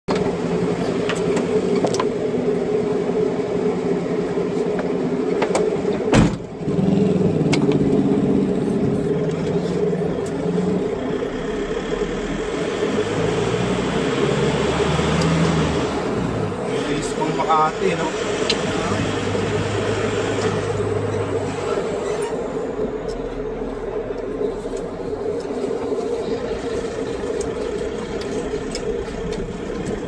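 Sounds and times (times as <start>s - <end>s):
truck engine running: 0.1s - 30.0s.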